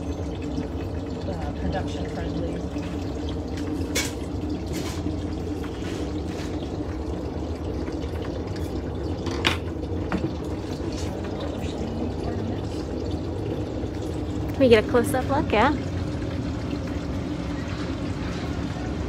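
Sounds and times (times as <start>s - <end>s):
furnace rushing hum: 0.0s - 19.0s.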